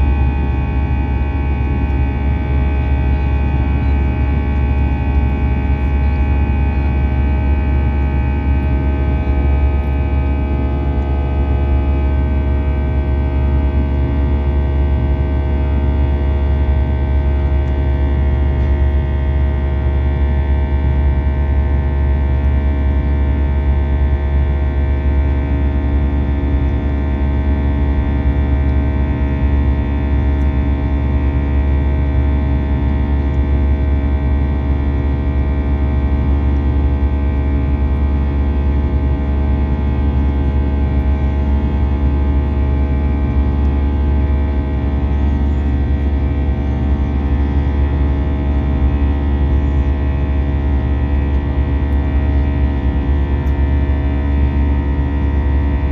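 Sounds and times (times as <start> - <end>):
aircraft cabin engine drone: 0.0 - 55.9.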